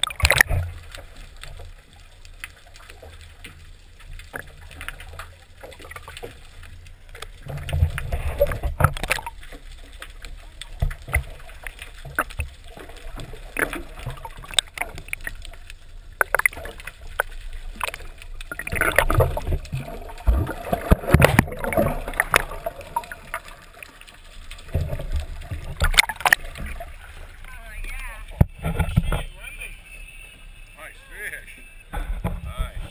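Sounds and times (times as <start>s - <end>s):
muffled underwater sloshing: 0.0s - 32.9s.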